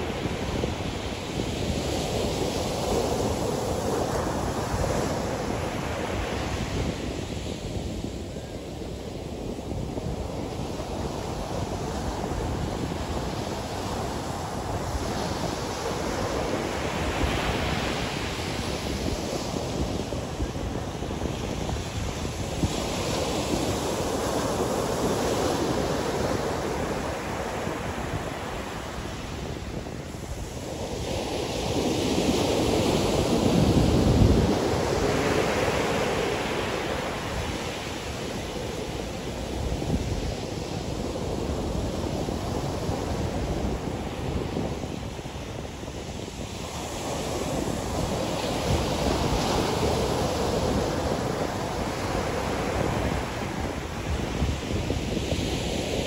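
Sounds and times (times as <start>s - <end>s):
ocean waves breaking on beach: 0.0s - 56.0s
wind buffeting microphone: 0.0s - 56.0s.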